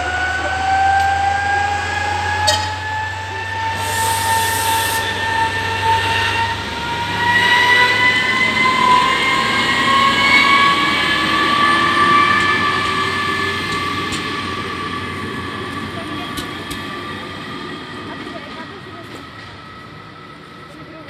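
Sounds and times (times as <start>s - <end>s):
diesel train passing: 0.0s - 21.0s
drivetrain whine: 0.0s - 21.0s.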